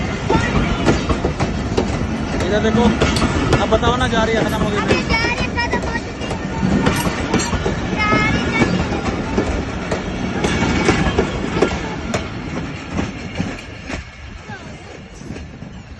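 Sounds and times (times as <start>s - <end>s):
train carriages rolling past: 0.0s - 15.9s
wheels clacking over rail joints: 0.0s - 15.9s.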